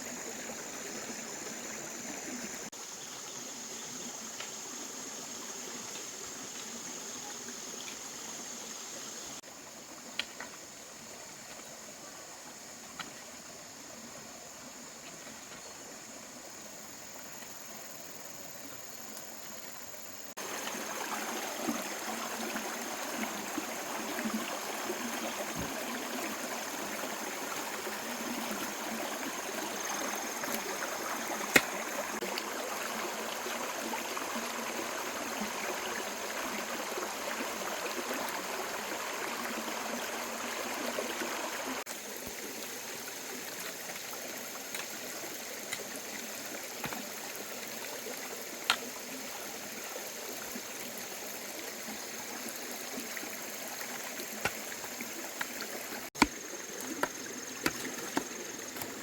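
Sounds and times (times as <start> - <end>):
running water trickle: 0.0 - 59.0.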